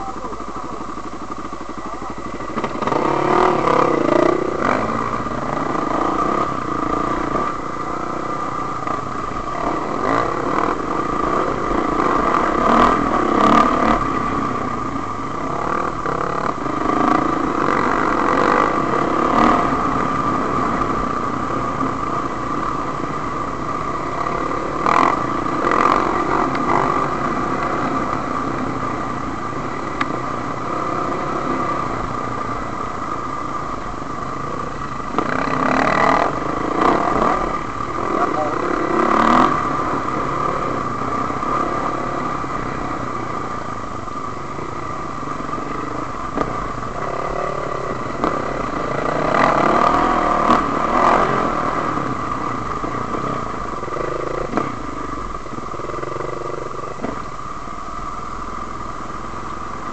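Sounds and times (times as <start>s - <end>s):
dirt bike engine revving: 0.0s - 43.8s, 44.4s - 55.1s.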